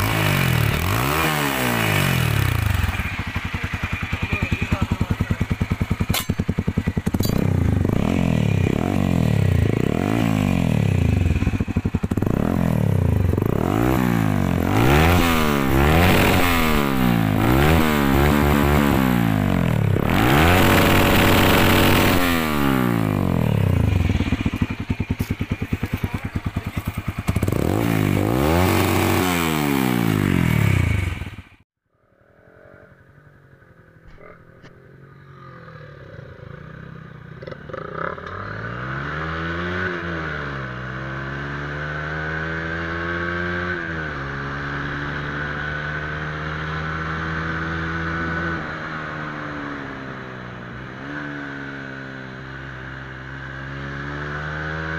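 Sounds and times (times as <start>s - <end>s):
motorcycle engine revving: 0.0s - 31.6s, 32.8s - 54.9s
motorcycle riding steadily: 0.0s - 31.7s, 32.8s - 54.9s.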